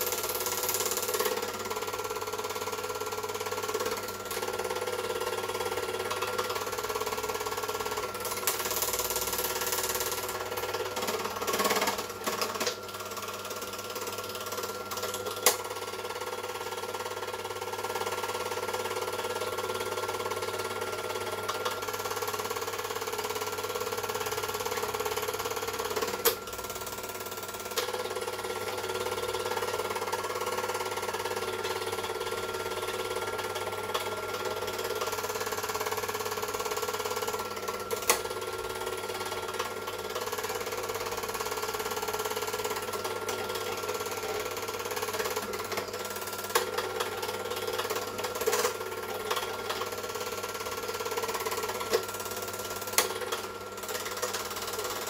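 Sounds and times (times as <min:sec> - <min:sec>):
film projector whirring and clattering: 0:00.0 - 0:55.0.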